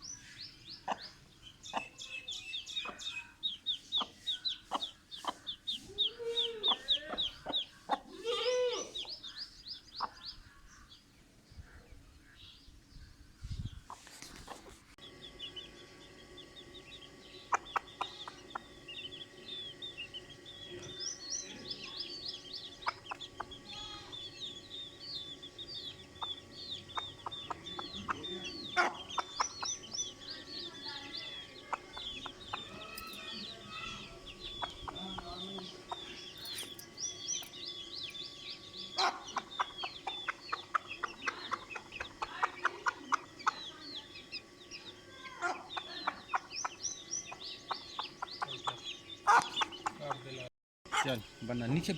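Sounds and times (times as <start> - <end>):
hen clucking: 0.0 - 11.0, 13.4 - 51.9
chicks peeping: 0.0 - 51.9.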